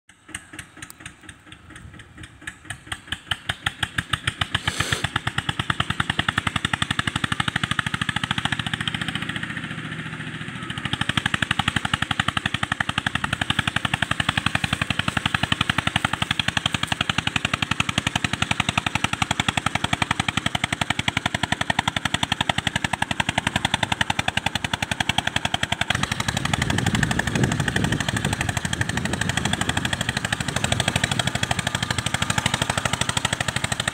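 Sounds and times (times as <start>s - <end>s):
diesel tractor engine chugging: 0.1s - 33.9s.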